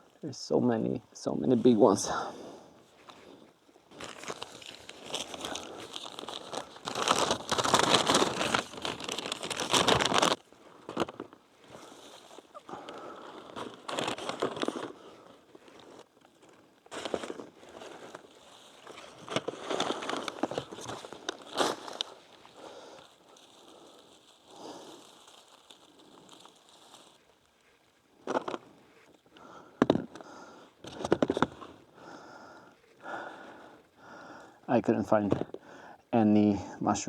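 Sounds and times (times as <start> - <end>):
rustling and crackling of shrubs: 0.0 - 35.6.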